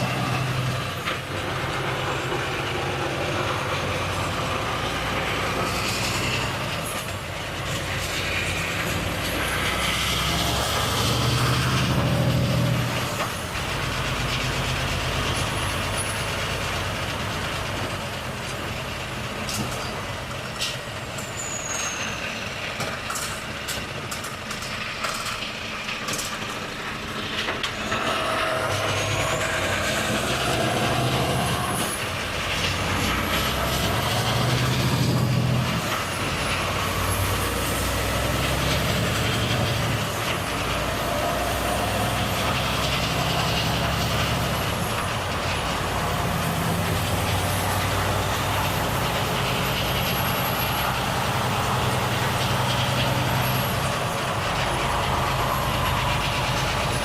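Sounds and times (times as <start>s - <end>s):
high engine whine: 0.0s - 57.0s
truck diesel engine running: 0.0s - 57.0s.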